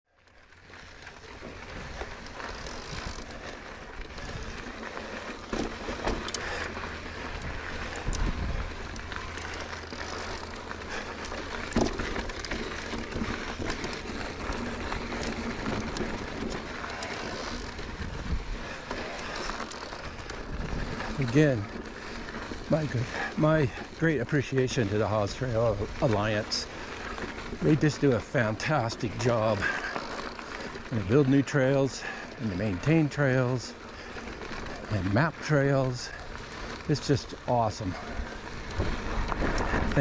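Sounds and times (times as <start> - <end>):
bike clicks and rattles: 0.1 - 40.0
tyres crunching over gravel: 0.2 - 40.0.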